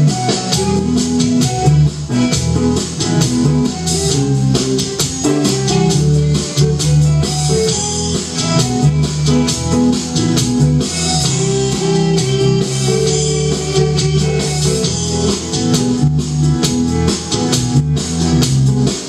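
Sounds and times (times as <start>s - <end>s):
rock band playing instrumental: 0.0s - 19.0s.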